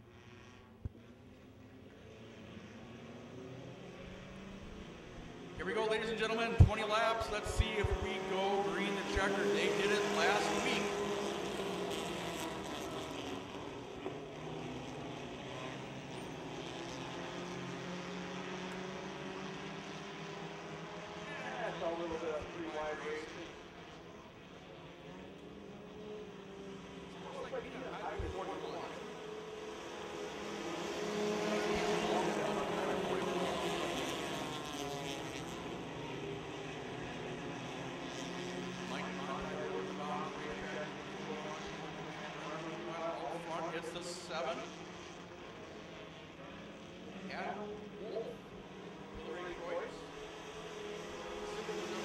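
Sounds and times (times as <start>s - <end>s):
racing car engines droning: 0.0s - 52.0s.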